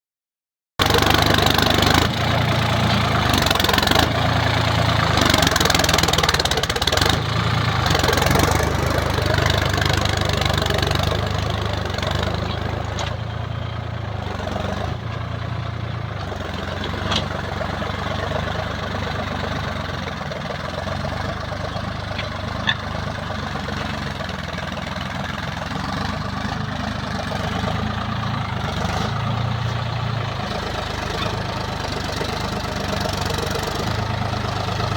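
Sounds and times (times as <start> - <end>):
tractor diesel engine running: 0.8 - 34.9.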